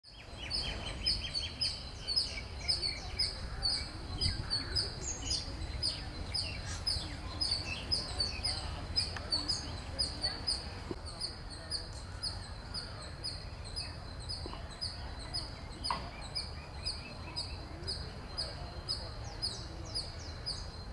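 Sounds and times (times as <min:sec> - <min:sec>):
birds chirping: 0:00.1 - 0:20.9.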